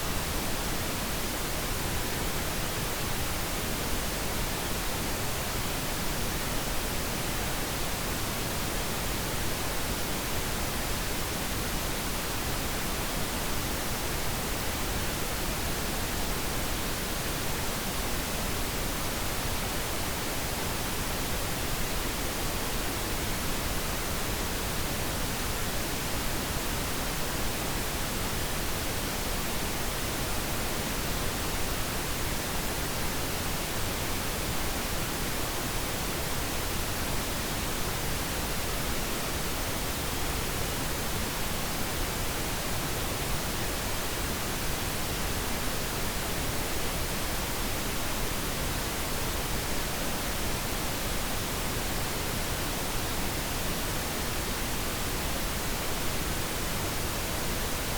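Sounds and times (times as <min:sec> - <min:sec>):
steady pink noise hiss: 0:00.0 - 0:57.9.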